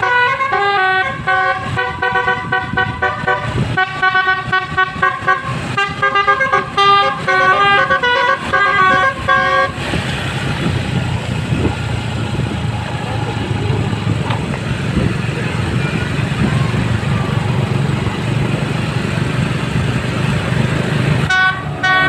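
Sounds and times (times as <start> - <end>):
multi-tone bus horn tune: 0.0 - 19.9, 20.9 - 22.0
rushing noise: 1.1 - 22.0.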